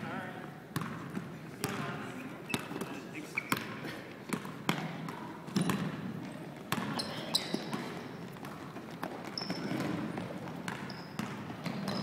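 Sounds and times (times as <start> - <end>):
basketball bouncing: 0.8 - 1.9, 3.5 - 12.0
sneakers squeaking on gym floor: 0.8 - 12.0.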